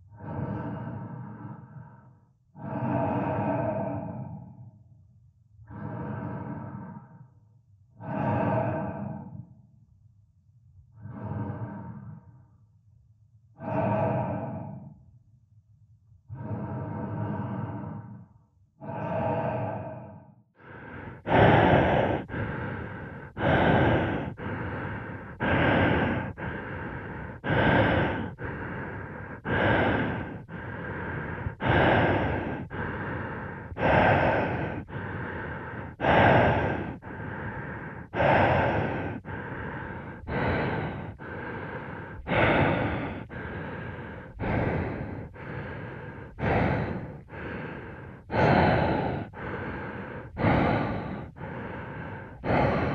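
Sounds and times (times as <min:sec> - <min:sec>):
diver breathing: 0:00.0 - 0:09.8, 0:10.7 - 0:12.8, 0:13.5 - 0:15.2, 0:16.2 - 0:52.9.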